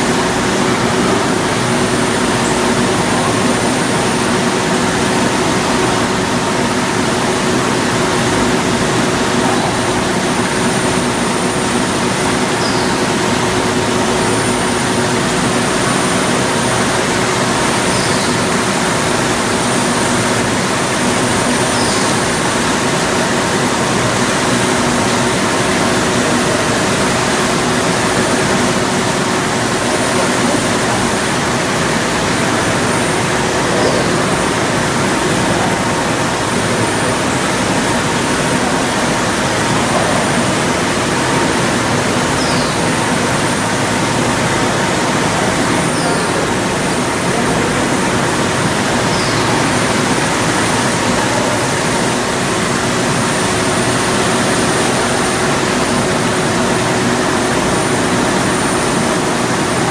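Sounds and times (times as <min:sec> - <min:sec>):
constant hum: 0:00.0 - 0:59.9.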